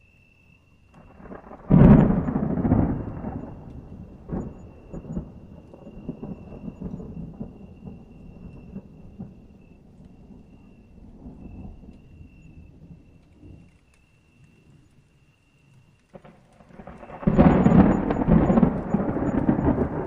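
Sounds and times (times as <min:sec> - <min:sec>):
thunder rumble and crack: 0:00.9 - 0:15.0, 0:15.8 - 0:20.0.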